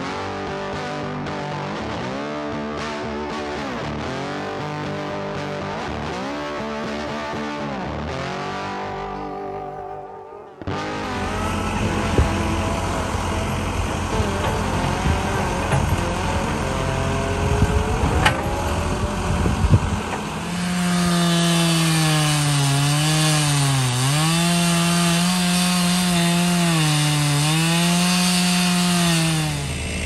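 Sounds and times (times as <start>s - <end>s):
chainsaw cutting a log: 0.0s - 9.6s, 10.6s - 30.0s
diesel engine revving: 0.0s - 30.0s.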